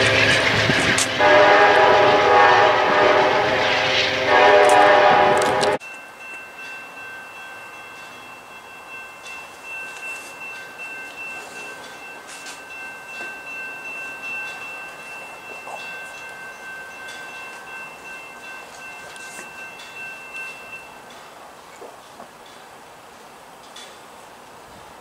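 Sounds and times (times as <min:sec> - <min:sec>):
distant crossing bell ringing: 0:00.0 - 0:21.7.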